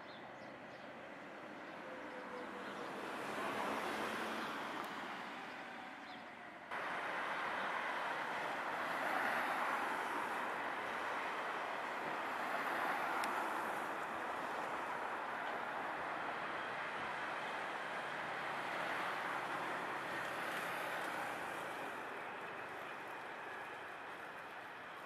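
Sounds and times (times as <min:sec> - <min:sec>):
tram running on track: 0:00.1 - 0:25.0.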